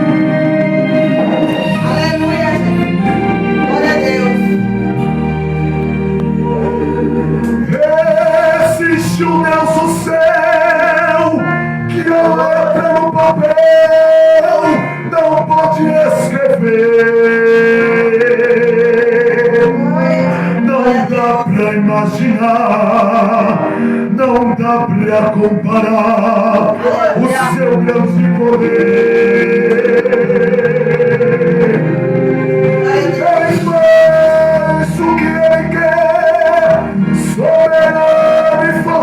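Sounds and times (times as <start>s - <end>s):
man singing gospel song: 0.0s - 5.1s, 5.9s - 39.0s
instrumental accompaniment: 0.0s - 39.0s.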